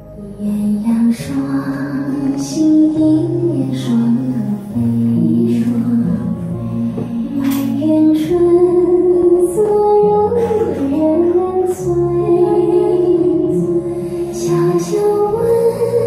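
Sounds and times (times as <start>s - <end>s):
instrumental backing: 0.0s - 16.0s
woman singing slow melody: 0.0s - 16.0s.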